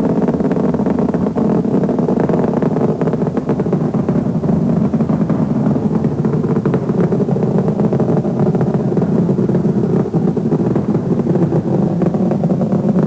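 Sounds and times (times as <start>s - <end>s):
rocket launch roar: 0.0s - 13.0s.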